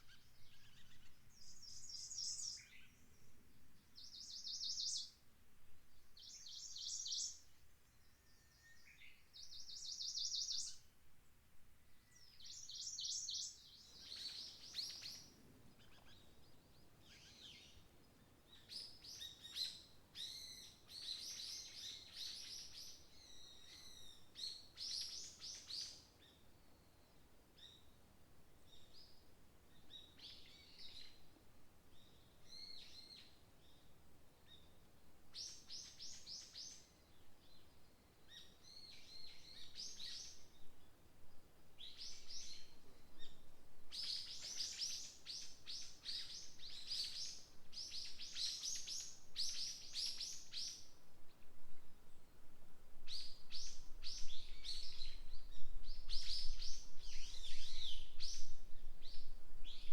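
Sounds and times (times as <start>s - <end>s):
songbirds singing and chirping: 0.0s - 10.9s, 11.8s - 59.9s.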